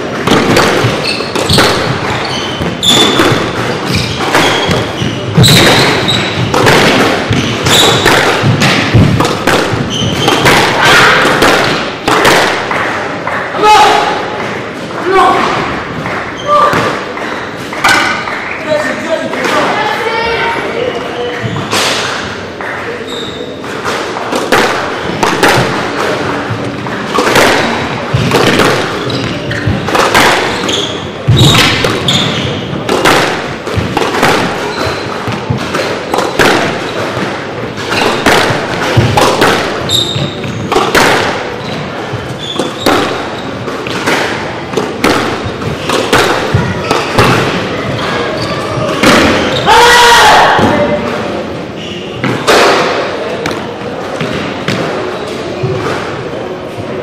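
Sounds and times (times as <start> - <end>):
squash ball hits: 0.0 - 18.5, 21.5 - 22.8, 23.5 - 56.3.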